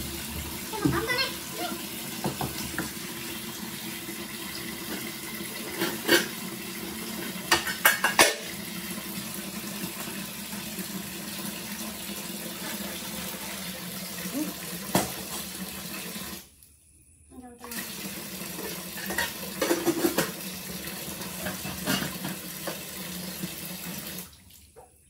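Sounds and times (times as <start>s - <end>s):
water splashing into tub: 0.0s - 16.6s, 17.6s - 25.0s.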